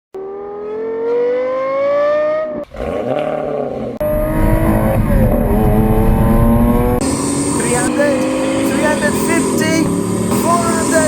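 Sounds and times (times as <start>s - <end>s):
car engine accelerating hard: 0.2s - 11.0s.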